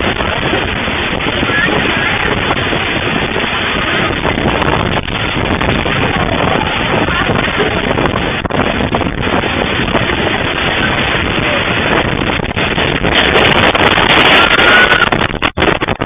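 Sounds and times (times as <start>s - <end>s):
storm wind gusting on microphone: 0.0s - 16.0s.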